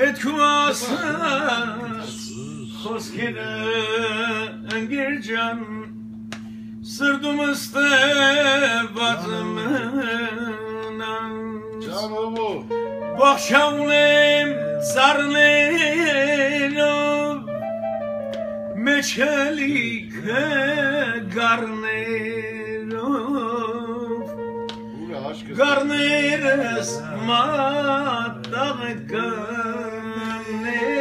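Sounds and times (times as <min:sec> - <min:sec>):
man singing with vibrato: 0:00.0 - 0:06.1, 0:06.8 - 0:12.1, 0:13.1 - 0:17.7, 0:18.7 - 0:24.6, 0:25.5 - 0:31.0
instrumental low drone note: 0:00.0 - 0:31.0.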